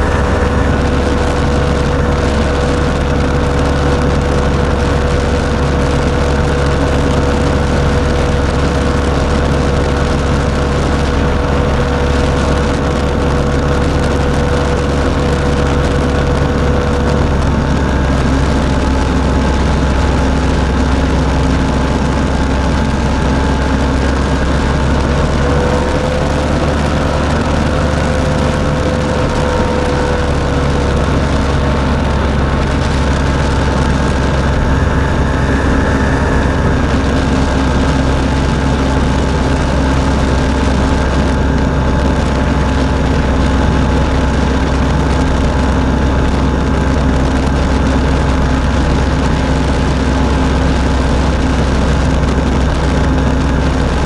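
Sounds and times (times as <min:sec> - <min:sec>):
pusher propeller: 0:00.0 - 0:54.0
ultralight engine running: 0:00.0 - 0:54.0
wind rush: 0:00.0 - 0:54.0.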